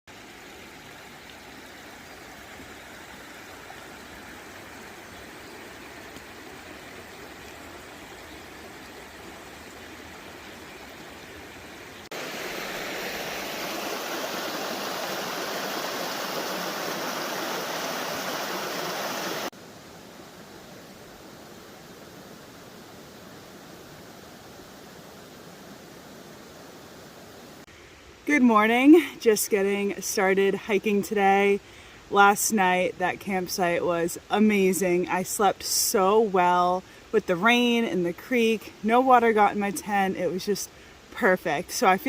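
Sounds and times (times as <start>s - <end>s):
creek water rushing: 0.1s - 42.0s.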